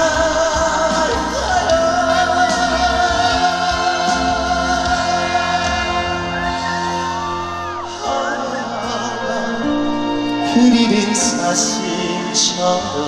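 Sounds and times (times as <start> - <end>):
band accompaniment: 0.0 - 13.0
man singing live: 0.0 - 13.0.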